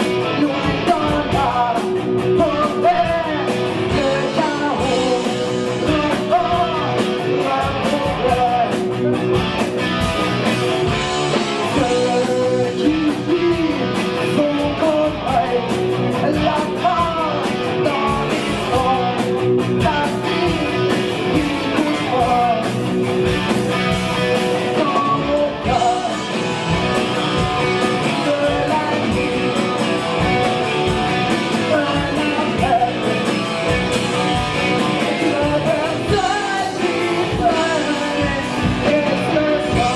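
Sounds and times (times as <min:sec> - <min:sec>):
person singing: 0:00.0 - 0:09.6, 0:10.2 - 0:23.2, 0:24.1 - 0:39.9
hard rock band playing: 0:00.0 - 0:39.9.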